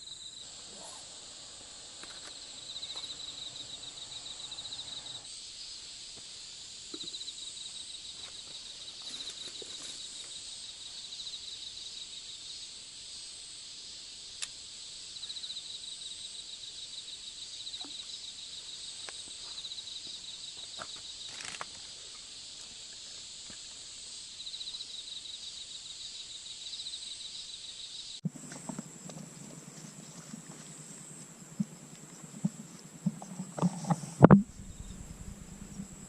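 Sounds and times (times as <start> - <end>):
insects chirping: 0.0 - 36.0
pulsing insect trill: 0.0 - 36.0.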